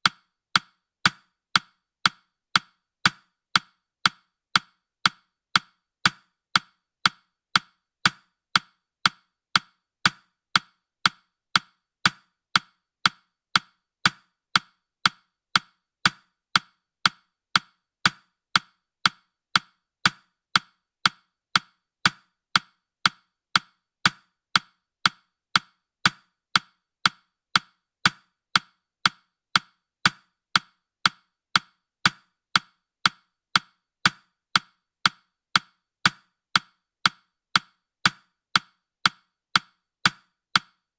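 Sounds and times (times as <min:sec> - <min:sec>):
clock ticking: 0:00.0 - 0:40.8.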